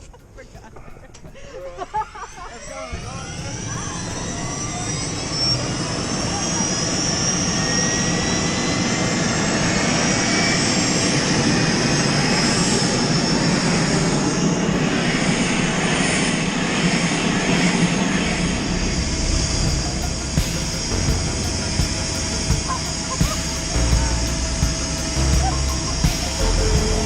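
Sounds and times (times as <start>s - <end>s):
helicopter engine and rotor: 0.2s - 27.0s
faint high whine: 1.7s - 27.0s.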